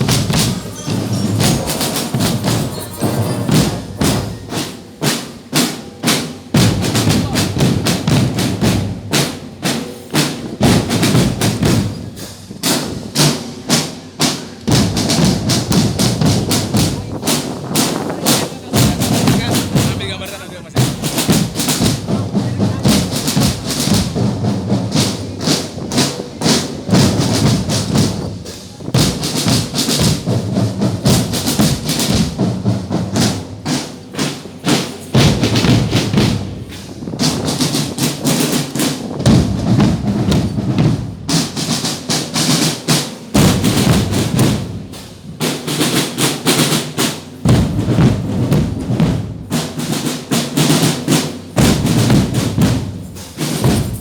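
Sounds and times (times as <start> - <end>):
drums in fast rhythm: 0.0 - 54.0.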